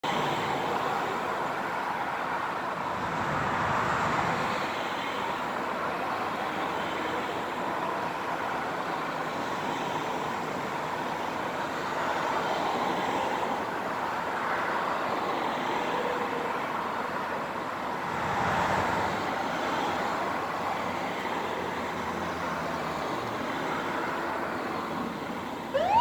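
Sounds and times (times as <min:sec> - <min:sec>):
passing traffic: 0:00.0 - 0:26.0.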